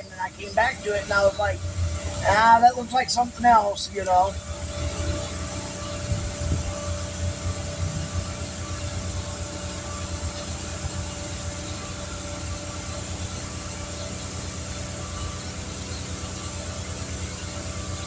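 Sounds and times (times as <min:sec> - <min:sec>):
motor droning: 0:00.0 - 0:18.0.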